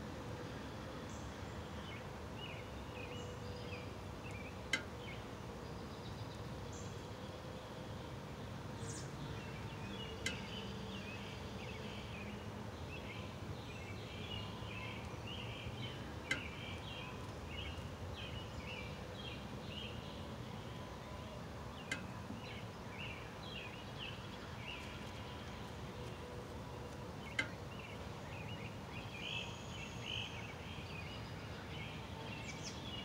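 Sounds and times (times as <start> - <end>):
background hiss and hum: 0.0 - 33.0.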